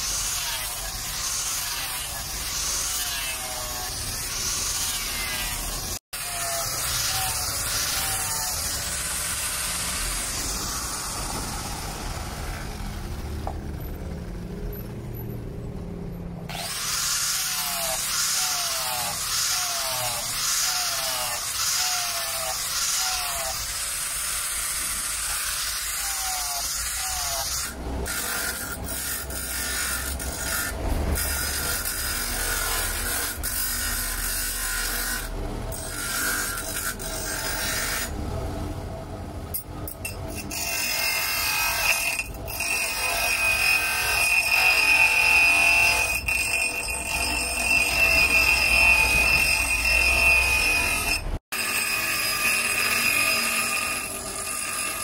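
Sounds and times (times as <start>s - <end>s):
bench grinder grinding blade: 0.0s - 13.8s, 16.5s - 38.2s, 39.5s - 55.0s
angle grinder grinding steel: 0.0s - 13.9s, 16.5s - 38.2s, 39.5s - 55.0s.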